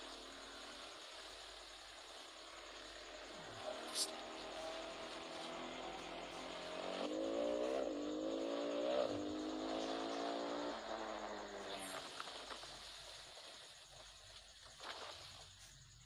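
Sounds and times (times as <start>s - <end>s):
motor vehicle engine running: 0.0s - 16.0s.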